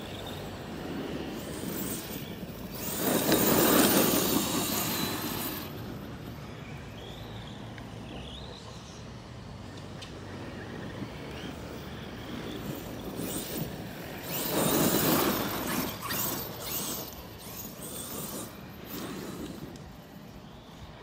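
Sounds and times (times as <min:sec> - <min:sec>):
rc car driving on dirt: 0:00.0 - 0:21.0.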